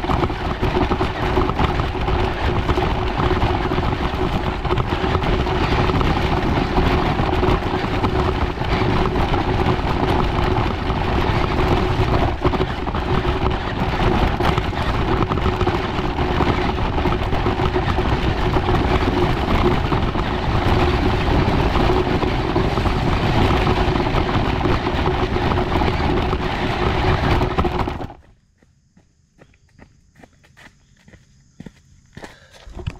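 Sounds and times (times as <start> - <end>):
model car motor and gears whining: 0.0 - 28.2.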